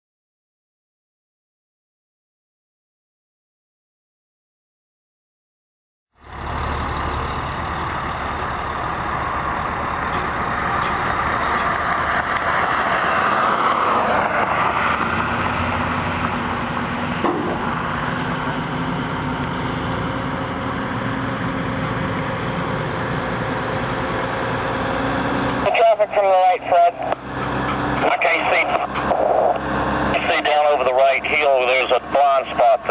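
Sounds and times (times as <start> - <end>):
vehicle engine and road noise: 6.2 - 32.9.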